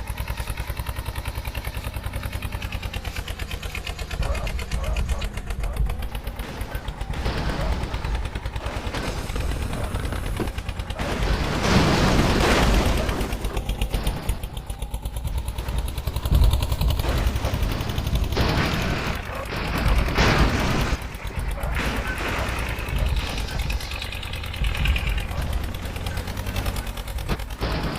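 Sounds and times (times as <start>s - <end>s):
heavy vehicle engine rattling: 0.0s - 27.9s.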